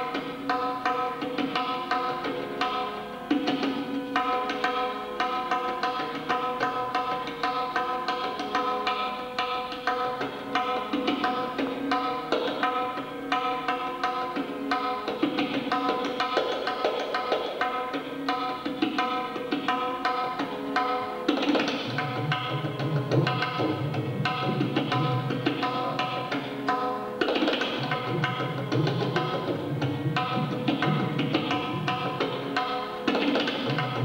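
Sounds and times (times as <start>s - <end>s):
harmonium melody: 0.0s - 34.0s
tabla drum strokes: 0.0s - 34.0s.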